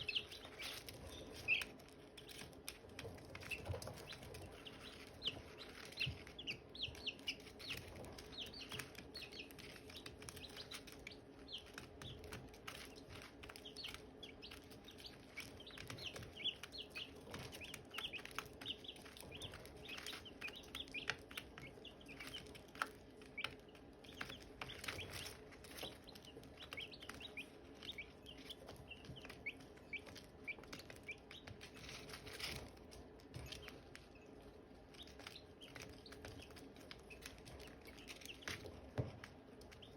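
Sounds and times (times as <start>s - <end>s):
chicks peeping: 0.0s - 39.9s
faint low hum: 0.0s - 39.9s.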